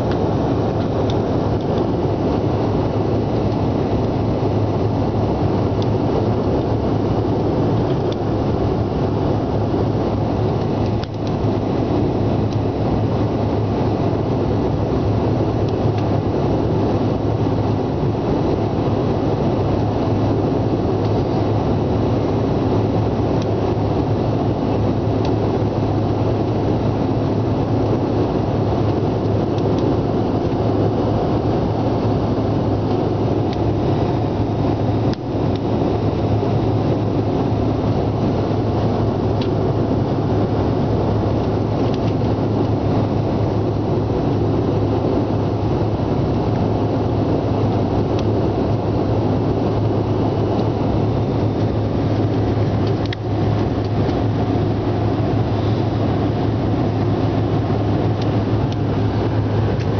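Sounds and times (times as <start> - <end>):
jet engines roaring: 0.0 - 59.9
low cabin hum: 0.0 - 59.9.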